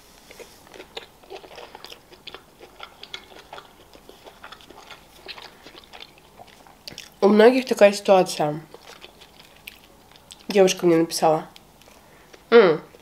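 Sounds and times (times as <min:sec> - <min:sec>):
biting and chewing pizza: 0:00.2 - 0:13.0.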